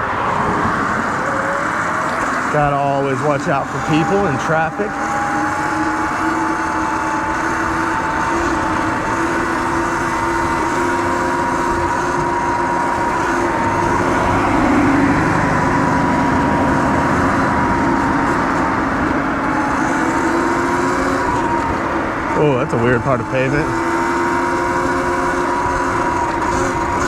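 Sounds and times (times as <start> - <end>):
electric motor whine: 0.0 - 27.0
tyre noise: 0.0 - 27.0.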